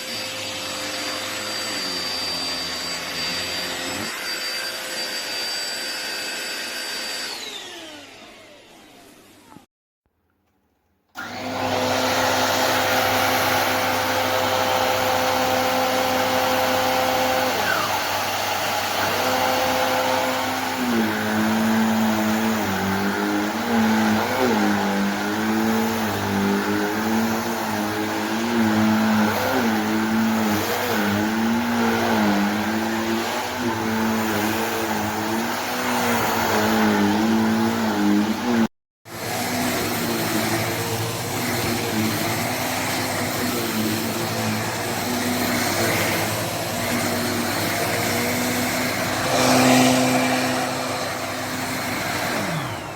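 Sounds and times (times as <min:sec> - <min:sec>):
handheld vacuum motor whine: 0:00.0 - 0:09.7, 0:11.2 - 0:52.9.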